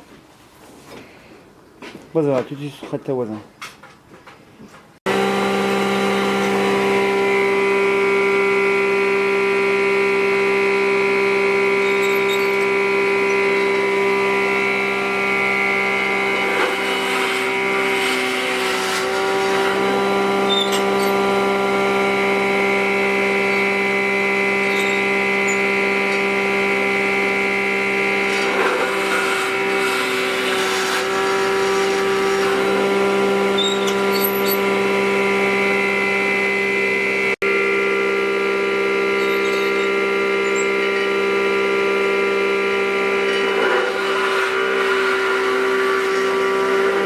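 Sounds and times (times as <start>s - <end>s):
power tool motor running: 5.1s - 47.0s
tool working wood: 5.1s - 47.0s.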